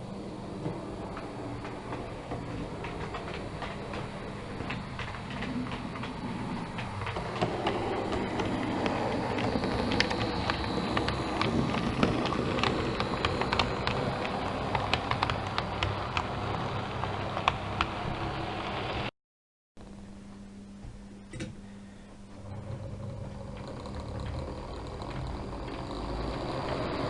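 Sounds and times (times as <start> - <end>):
train running hum: 0.0 - 19.1, 22.0 - 27.0
train wheels clicking on rails: 0.0 - 19.1, 22.4 - 27.0.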